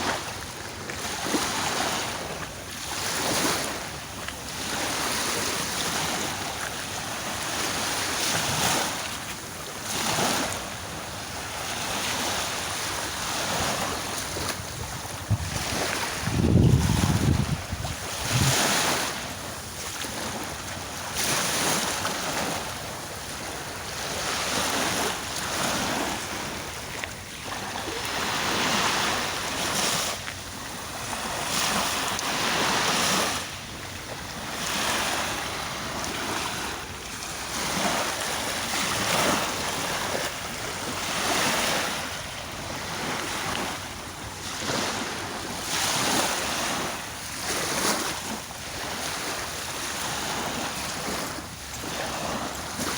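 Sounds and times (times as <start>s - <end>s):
sea waves breaking: 0.0s - 52.9s.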